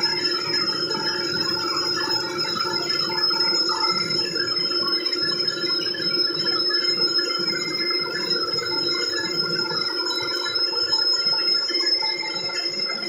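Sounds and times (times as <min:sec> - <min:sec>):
metal lathe whine: 0:00.0 - 0:13.0.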